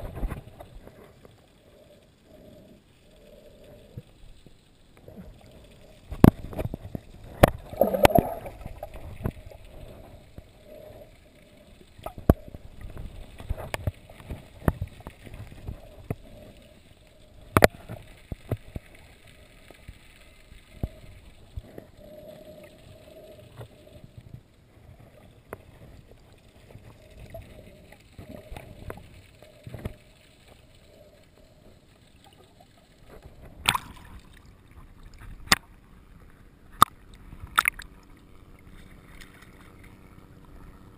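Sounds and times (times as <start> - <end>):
faint steady hum: 0.0 - 40.9
underwater rumble: 0.0 - 40.9.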